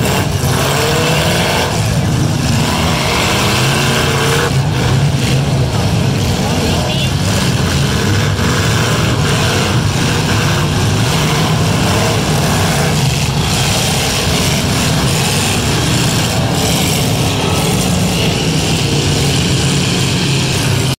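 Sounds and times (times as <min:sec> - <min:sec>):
car engines revving: 0:00.0 - 0:21.0
cars crashing metal: 0:00.0 - 0:21.0.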